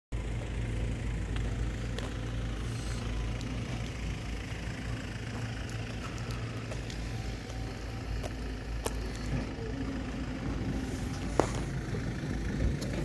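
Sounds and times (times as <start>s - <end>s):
diesel van engine idling: 0.1s - 13.0s.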